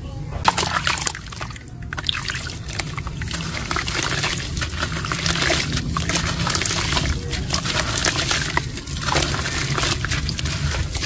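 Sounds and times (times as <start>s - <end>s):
low steady rumble: 0.0s - 11.0s
pieces splashing into water: 0.4s - 11.0s.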